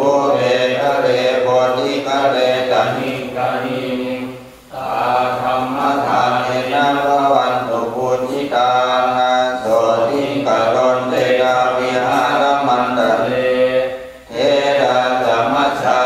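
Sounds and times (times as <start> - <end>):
monks chanting: 0.0 - 16.0.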